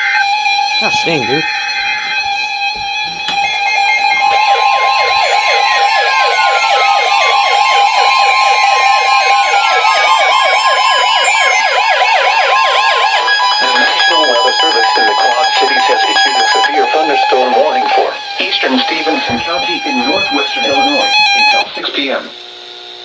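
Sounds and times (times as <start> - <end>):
fast warbling siren: 0.0 - 21.8
steady high alert tone: 0.7 - 21.8.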